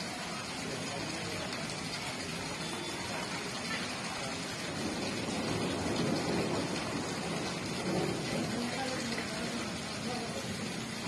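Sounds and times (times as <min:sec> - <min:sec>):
floodwater running: 0:00.0 - 0:11.0
torrential rain: 0:00.0 - 0:11.0.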